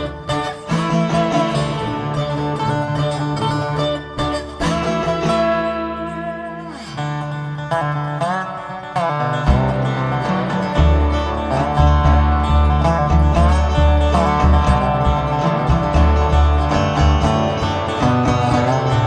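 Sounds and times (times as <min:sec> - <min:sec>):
bass notes: 0:00.0 - 0:19.0
dobro sliding notes: 0:00.0 - 0:19.0
guitar: 0:00.0 - 0:19.0.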